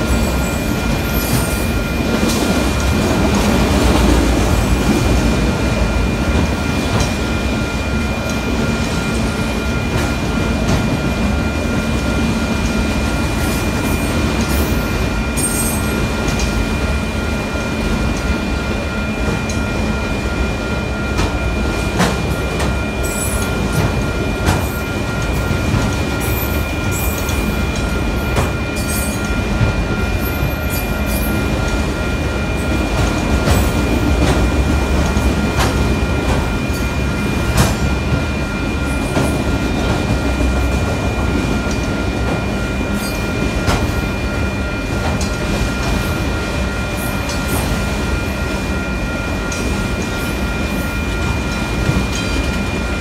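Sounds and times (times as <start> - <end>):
freight train rumble: 0.0 - 53.0
steady high ringing tone: 0.0 - 53.0.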